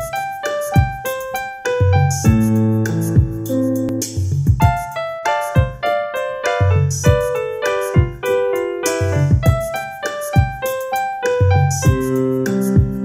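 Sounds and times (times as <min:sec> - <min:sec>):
piano duet: 0:00.0 - 0:13.0.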